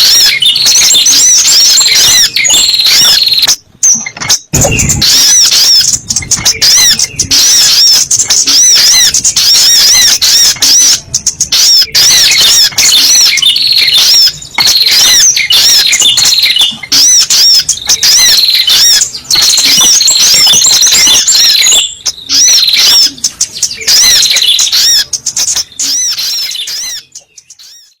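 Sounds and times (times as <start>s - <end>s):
rapid high-pitched bird chirps: 0.0s - 28.0s.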